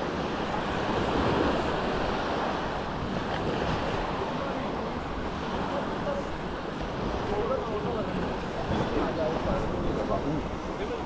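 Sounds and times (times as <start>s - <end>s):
sea waves breaking on beach: 0.0s - 11.0s
wind buffeting microphone: 0.0s - 11.0s.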